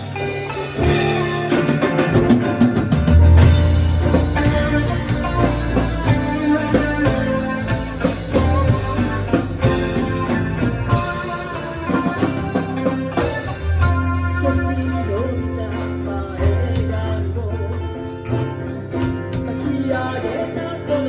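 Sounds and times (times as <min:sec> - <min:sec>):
bass: 0:00.0 - 0:21.0
drum kit beat: 0:00.0 - 0:21.0
guitar: 0:00.0 - 0:21.0.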